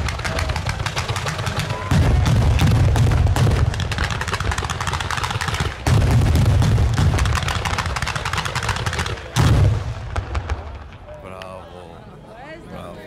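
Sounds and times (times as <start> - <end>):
fireworks bangs and crackles: 0.0 - 11.8.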